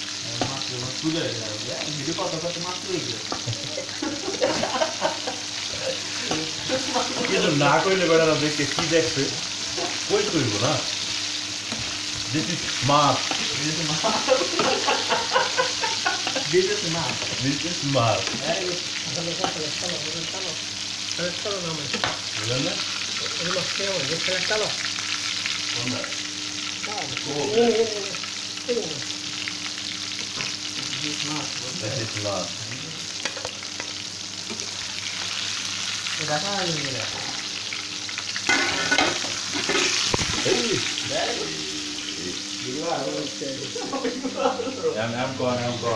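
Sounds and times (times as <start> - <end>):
fish frying in hot oil: 0.0 - 45.9.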